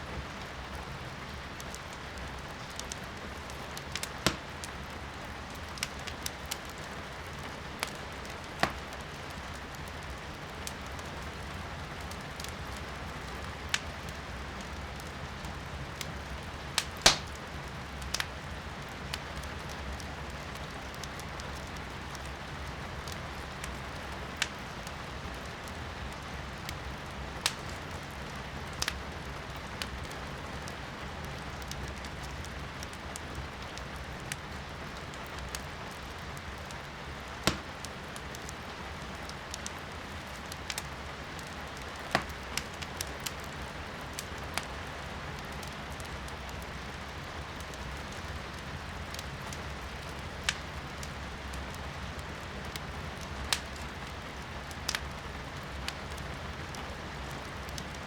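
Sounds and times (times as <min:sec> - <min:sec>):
firewood crackling and popping: 0:00.1 - 0:58.0.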